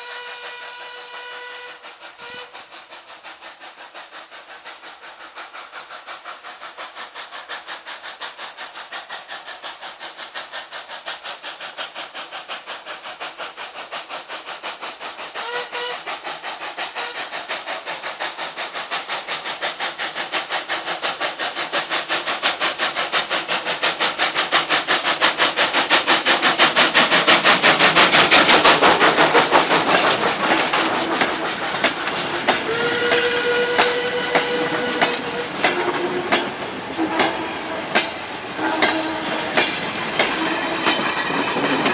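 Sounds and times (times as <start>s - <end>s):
steam locomotive exhaust beats: 0.0s - 41.9s.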